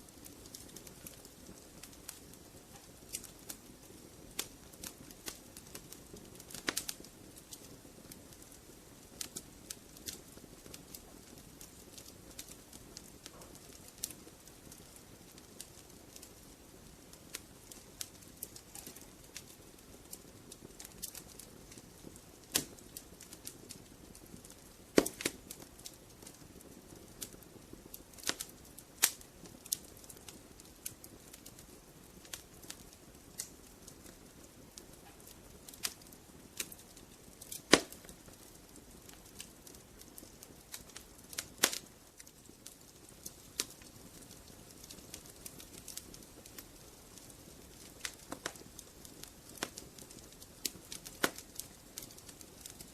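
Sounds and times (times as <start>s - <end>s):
faint low hiss: 0.0s - 52.9s
wood fire crackling and popping: 0.0s - 52.9s.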